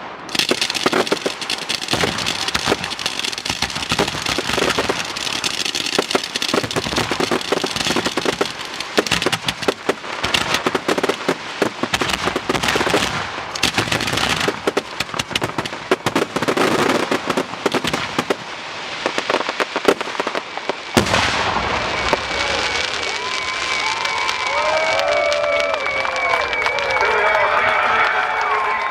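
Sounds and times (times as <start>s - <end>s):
loud fireworks bang: 0.0s - 26.4s
fireworks crackling and popping: 0.0s - 28.6s.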